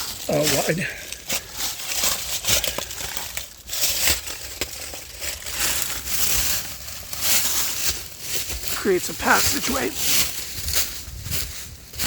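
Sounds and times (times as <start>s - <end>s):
crunching and rustling: 0.0s - 12.0s.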